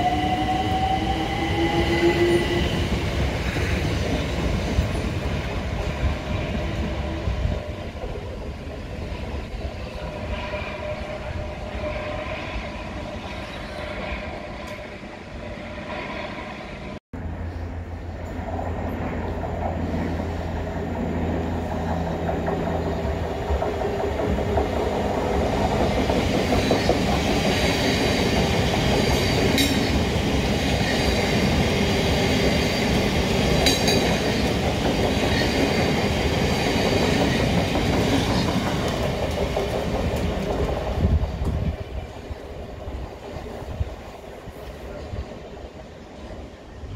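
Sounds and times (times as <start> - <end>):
electric train whine: 0.0 - 46.9
train passing with rumble: 0.0 - 46.9.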